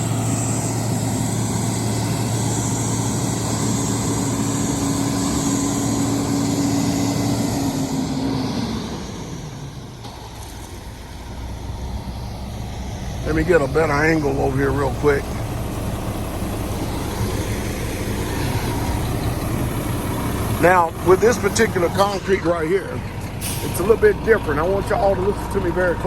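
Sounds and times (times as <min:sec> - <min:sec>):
truck engine humming: 0:00.0 - 0:26.0.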